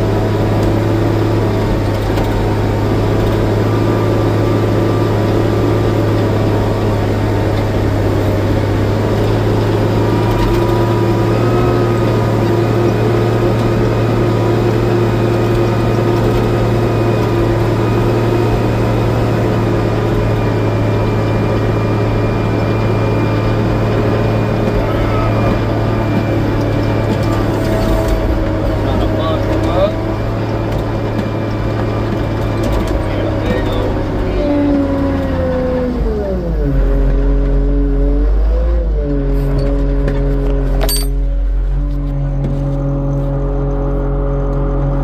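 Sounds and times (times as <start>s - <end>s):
diesel engine low drone: 0.0s - 45.0s.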